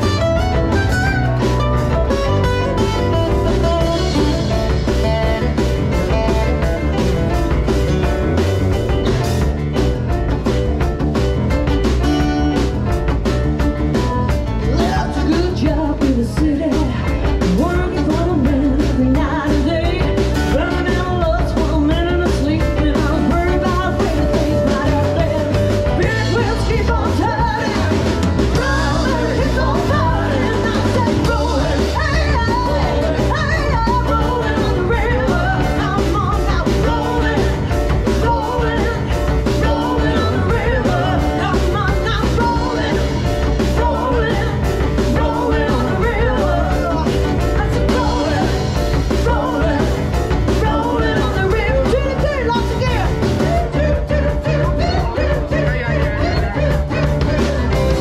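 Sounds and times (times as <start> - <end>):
live rock and roll song: 0.0 - 58.0.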